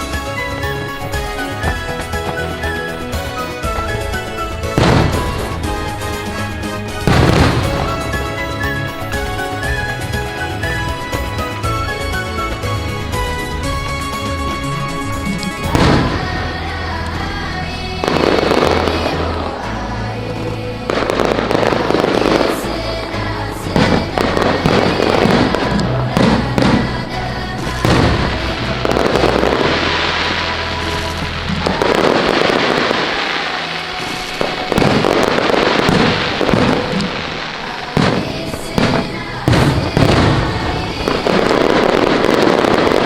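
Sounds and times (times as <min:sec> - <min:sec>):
fireworks bursting: 0:00.0 - 0:43.0
music playing: 0:00.0 - 0:43.0.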